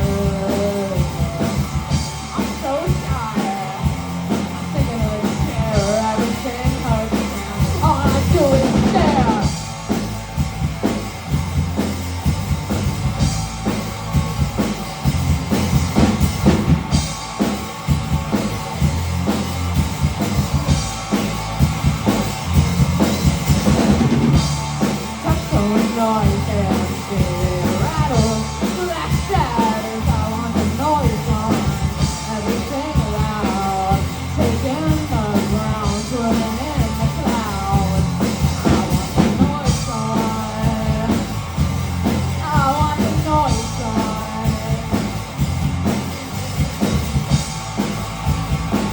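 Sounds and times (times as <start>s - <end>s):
drum kit beat: 0.0s - 48.9s
rock band playing live: 0.0s - 48.9s.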